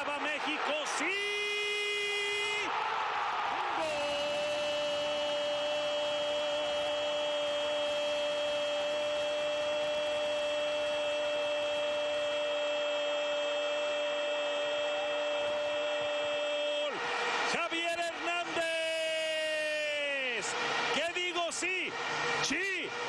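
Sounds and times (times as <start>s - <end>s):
stadium crowd cheering: 0.0s - 23.0s.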